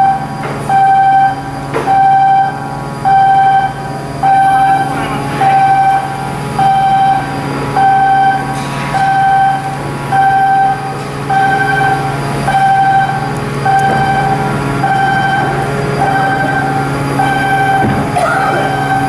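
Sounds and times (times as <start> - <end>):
electronic alarm beeping: 0.0 - 19.0
machinery hum: 0.0 - 19.0.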